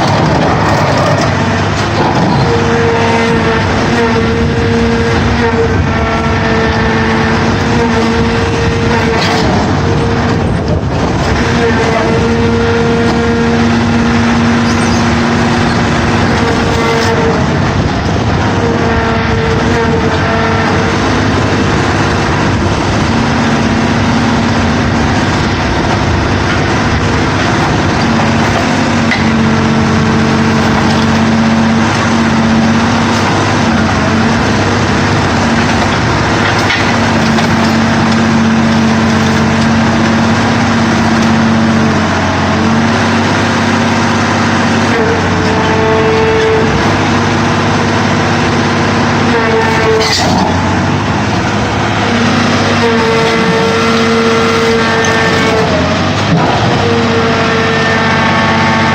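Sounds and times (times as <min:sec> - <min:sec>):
car baler engine and hydraulics: 0:00.0 - 0:58.9
pitched hum: 0:00.0 - 0:58.9.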